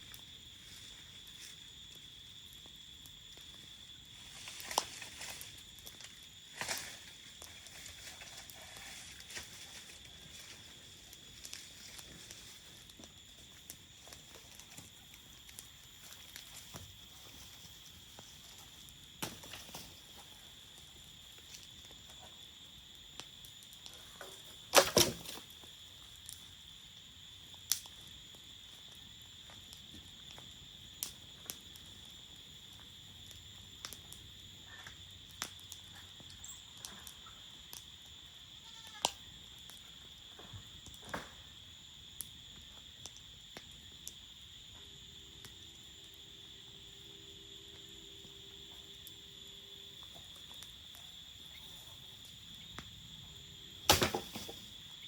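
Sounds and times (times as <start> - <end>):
campfire crackling and popping: 0.0 - 47.1, 47.7 - 55.0
crickets chirring: 0.0 - 55.0.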